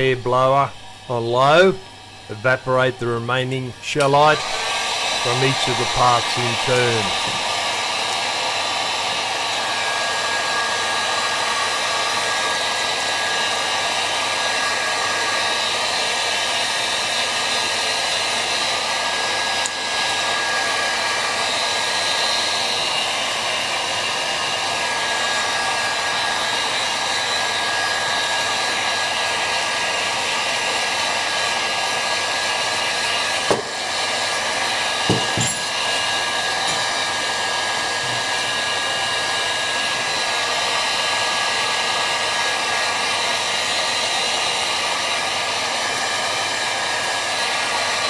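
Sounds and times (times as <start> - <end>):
heat gun blowing air: 0.0 - 48.0.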